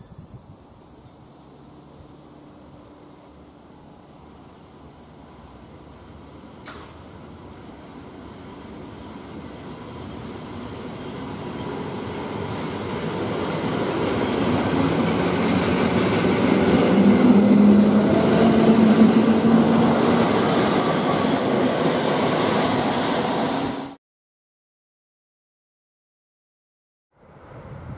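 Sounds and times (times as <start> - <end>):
electric train running past: 0.6 - 24.0.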